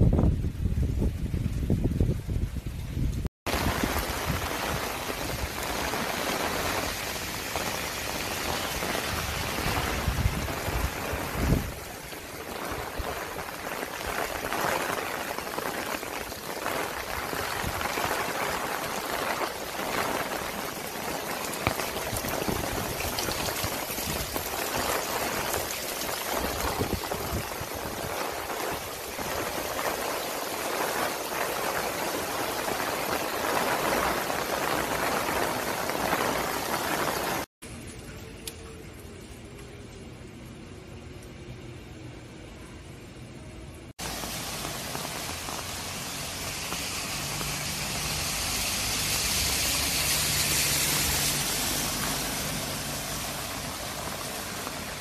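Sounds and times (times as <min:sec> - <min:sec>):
heavy rain on pavement: 0:00.0 - 0:55.0
floodwater rushing through drain: 0:01.0 - 0:43.0, 0:43.9 - 0:55.0.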